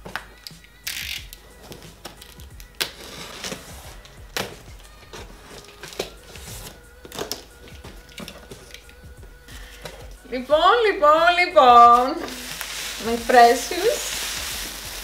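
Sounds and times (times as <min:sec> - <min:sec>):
tape and cardboard crackling: 0:00.0 - 0:10.2, 0:11.8 - 0:15.0
faint background music: 0:00.0 - 0:15.0.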